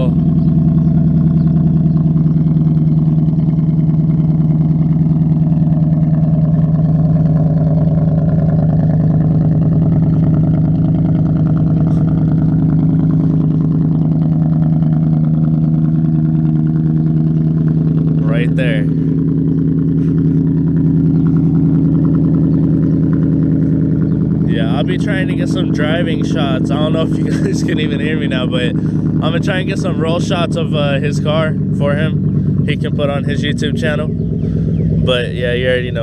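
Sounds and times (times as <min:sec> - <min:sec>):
car exhaust idling loudly: 0:00.0 - 0:36.0.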